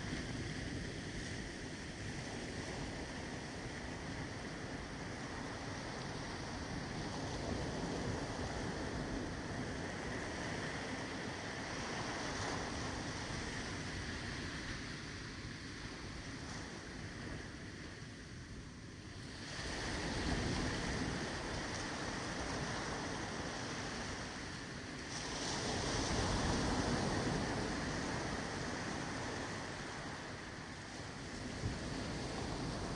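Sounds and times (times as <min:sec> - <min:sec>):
ocean waves washing on beach: 0:00.0 - 0:32.9.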